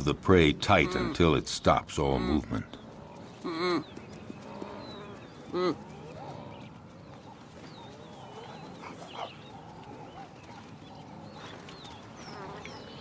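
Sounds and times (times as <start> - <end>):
wild dogs chirping and twittering: 2.0 - 13.0.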